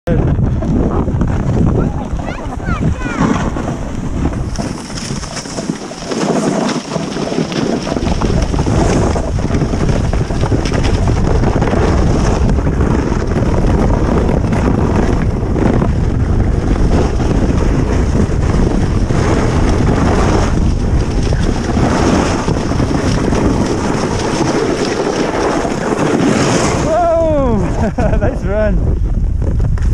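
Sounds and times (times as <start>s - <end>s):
wind buffeting microphone: 0.1s - 29.9s.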